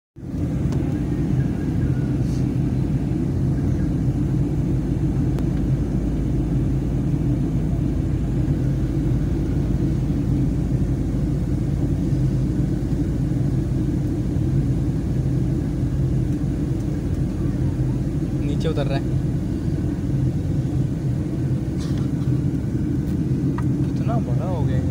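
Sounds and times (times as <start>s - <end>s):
airliner cabin engine rumble: 0.2s - 24.9s.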